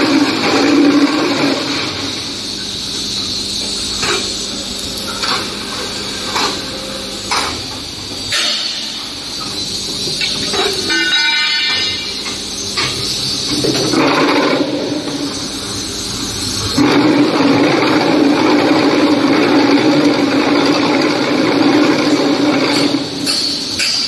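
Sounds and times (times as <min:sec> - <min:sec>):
block making machine running: 0:00.0 - 0:24.0
loud steady buzz: 0:00.0 - 0:24.0.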